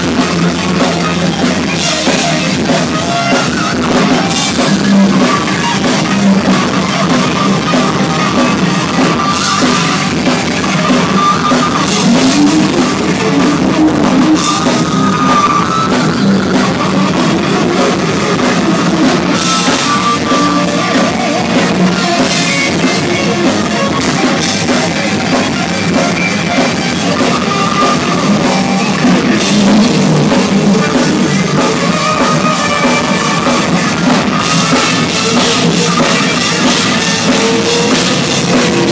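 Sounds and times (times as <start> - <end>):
bending lead guitar notes: 0.0 - 38.9
metal band playing live: 0.0 - 38.9.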